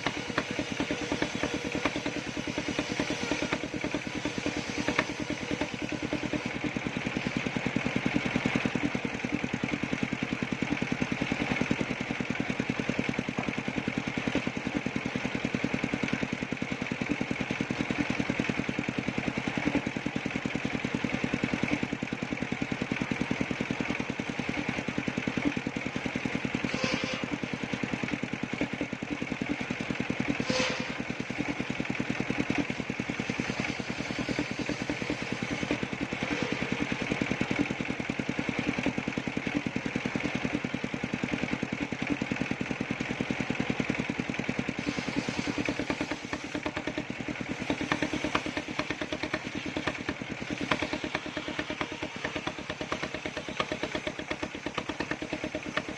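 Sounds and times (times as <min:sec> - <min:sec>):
circular saw running: 0:00.0 - 0:55.9.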